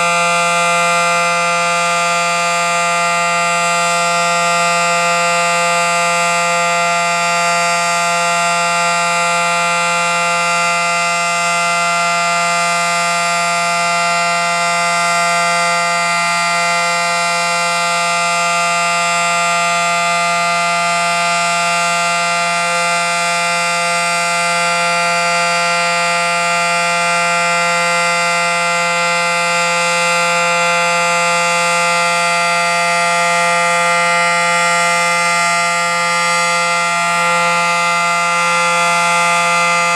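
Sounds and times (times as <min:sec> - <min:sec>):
civil defense siren steady tone: 0:00.0 - 0:39.9.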